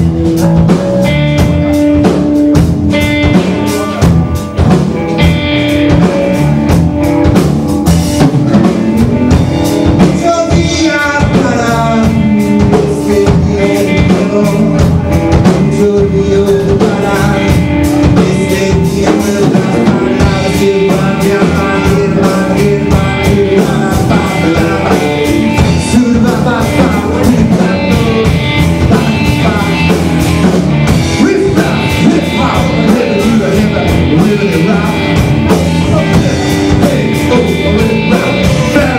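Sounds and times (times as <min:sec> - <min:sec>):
rock band playing live: 0:00.0 - 0:38.9
steady drumming: 0:00.0 - 0:38.9.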